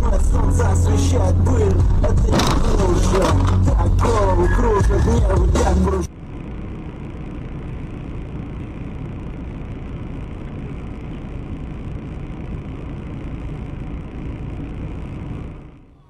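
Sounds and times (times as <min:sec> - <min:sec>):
car engine: 0:00.0 - 0:16.0
road noise: 0:00.0 - 0:16.0.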